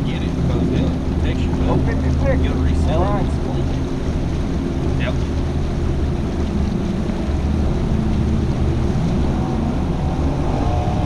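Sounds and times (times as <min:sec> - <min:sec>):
outboard motor idling: 0:00.0 - 0:10.5
water noise: 0:00.0 - 0:11.0
wind: 0:00.0 - 0:11.0.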